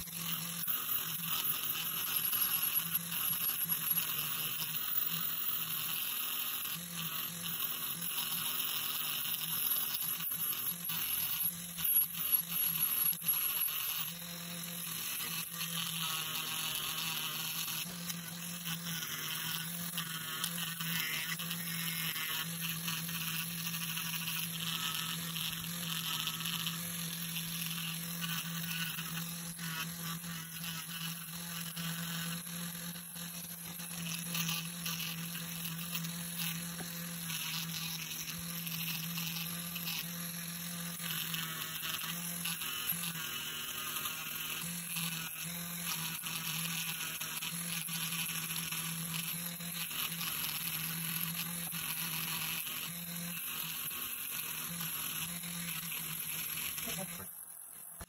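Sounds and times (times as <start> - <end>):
rotary tool motor hum: 0.0 - 58.0.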